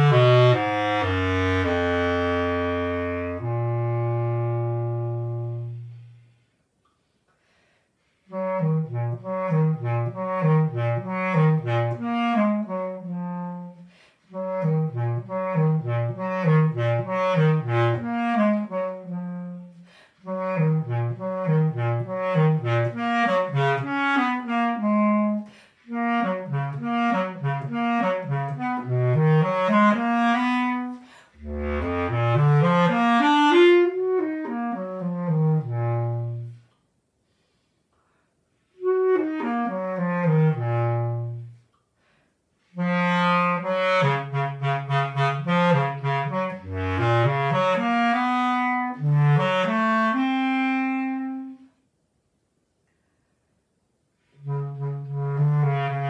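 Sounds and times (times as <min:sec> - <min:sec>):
bass clarinet playing: 0:00.0 - 0:06.5, 0:08.2 - 0:36.8, 0:38.6 - 0:41.7, 0:42.6 - 0:51.8, 0:54.2 - 0:56.0.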